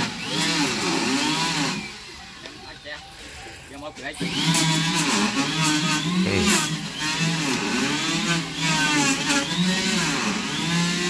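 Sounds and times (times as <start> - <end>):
small petrol engine revving: 0.0 - 2.2, 4.2 - 11.0.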